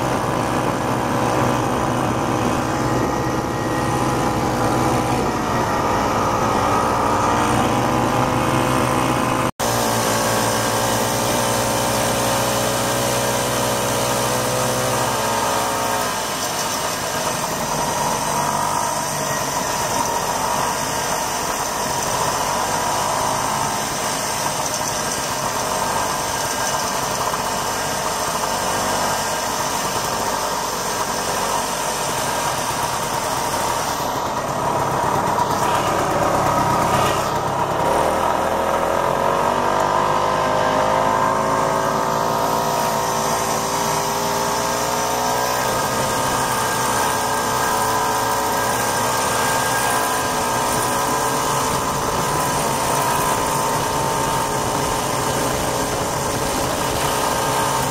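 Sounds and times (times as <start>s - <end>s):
two-stroke snowmobile engine running: 0.0s - 57.9s.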